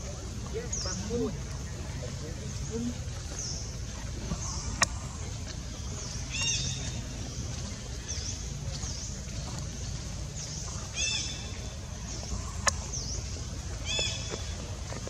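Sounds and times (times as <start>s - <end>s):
forest birds chirping: 0.0s - 15.0s
steady low rumble: 0.0s - 15.0s.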